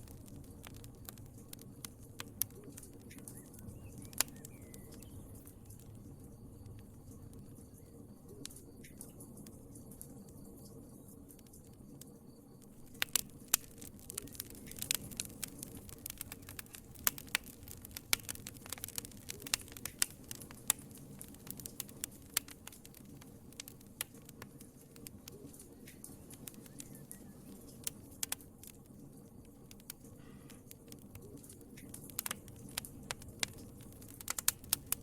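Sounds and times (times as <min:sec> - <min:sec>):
low rush of flames: 0:00.0 - 0:35.0
wood fire crackling and popping: 0:00.0 - 0:35.0.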